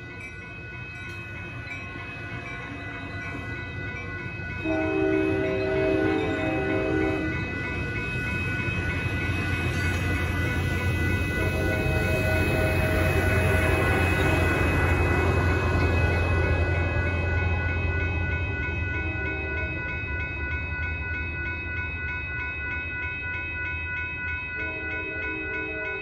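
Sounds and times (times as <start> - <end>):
diesel locomotive rumble: 0.0 - 22.1
railroad crossing bell ringing: 0.0 - 26.0
train rolling past: 0.0 - 26.0.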